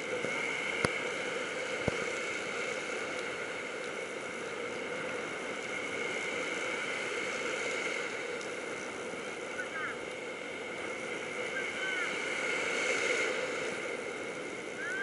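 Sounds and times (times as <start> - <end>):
breaking surf: 0.0 - 15.0.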